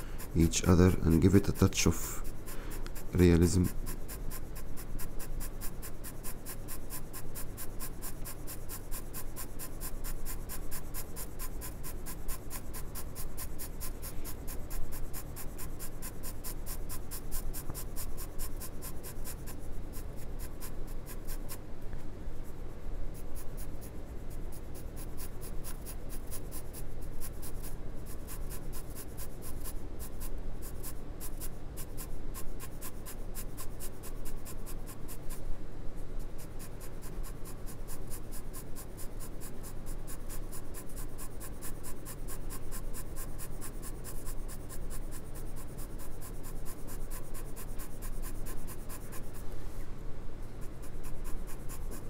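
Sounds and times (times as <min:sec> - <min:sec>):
pencil scratching on paper: 0:00.0 - 0:21.6, 0:22.4 - 0:49.5, 0:50.5 - 0:52.0.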